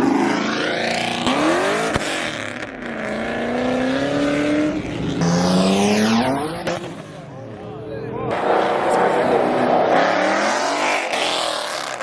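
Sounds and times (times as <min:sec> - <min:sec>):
car engine accelerating hard: 0:00.0 - 0:07.6, 0:08.3 - 0:12.0.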